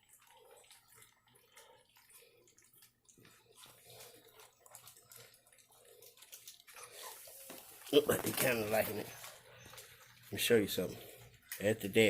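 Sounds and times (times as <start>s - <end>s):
puppies lapping food: 0.0s - 12.0s.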